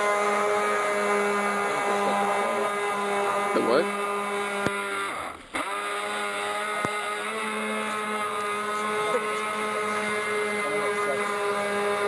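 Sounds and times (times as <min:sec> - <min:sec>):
model boat motor whining: 0:00.0 - 0:12.0.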